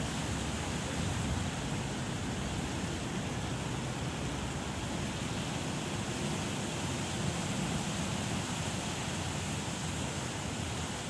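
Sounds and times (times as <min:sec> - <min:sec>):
wind blowing through palm trees: 0:00.0 - 0:11.0.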